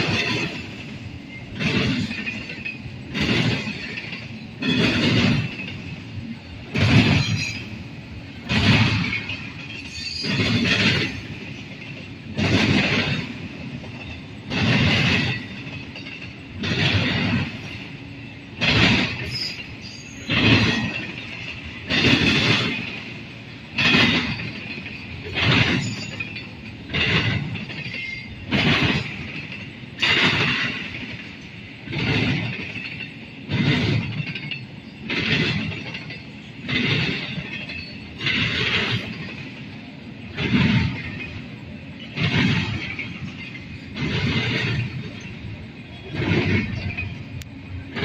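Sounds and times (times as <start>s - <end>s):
freight train rolling rumble: 0.0s - 48.0s
train wheels clacking over track joints: 0.0s - 48.0s.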